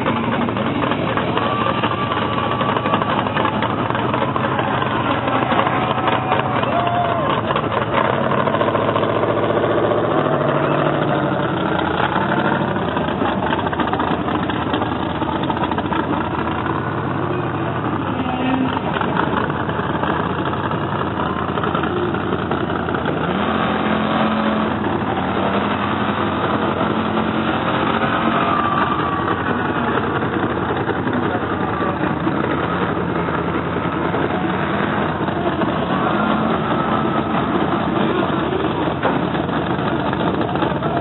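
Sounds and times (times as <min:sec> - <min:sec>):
arena noise: 0:00.0 - 0:41.0
monster truck engine revving: 0:00.0 - 0:41.0.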